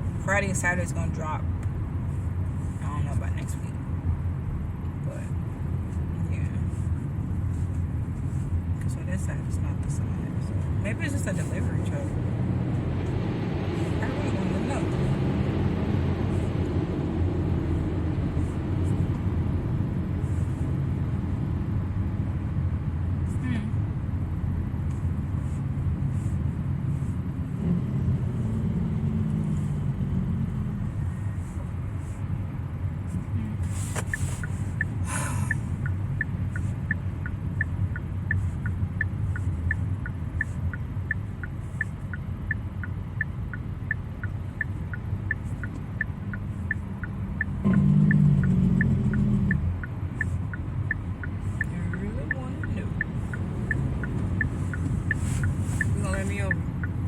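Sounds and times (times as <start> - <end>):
car cabin rumble while driving: 0.0 - 57.0
turn signal ticking: 0.0 - 57.0.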